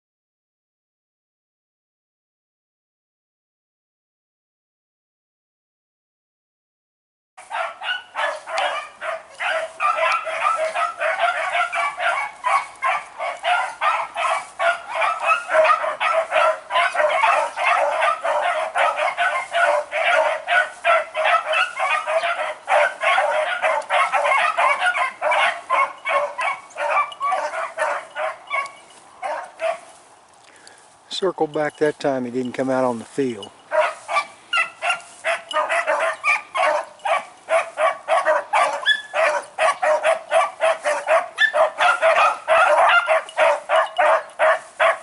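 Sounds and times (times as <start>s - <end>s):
beagles baying: 7.4s - 30.8s, 32.3s - 45.0s.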